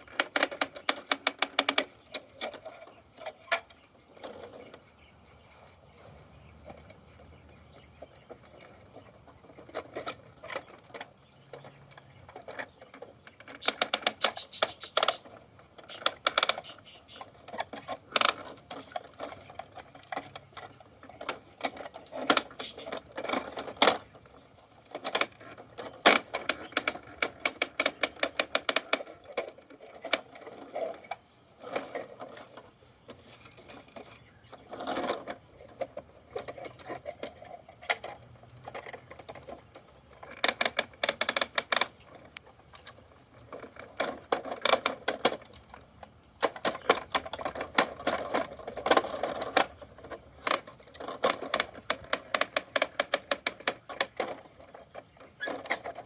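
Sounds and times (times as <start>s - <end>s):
plastic toy truck clicking: 0.0s - 4.8s, 6.6s - 56.0s.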